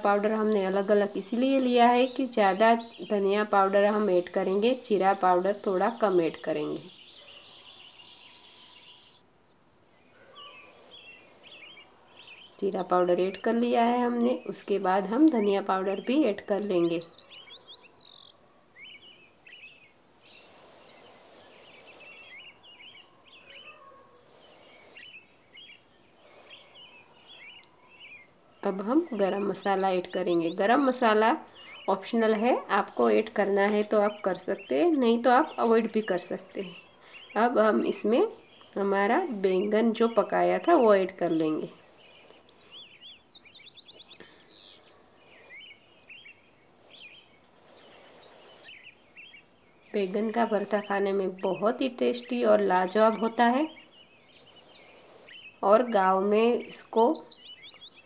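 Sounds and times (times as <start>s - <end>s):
birds chirping: 0.0s - 58.0s
faint background hiss: 0.0s - 58.0s.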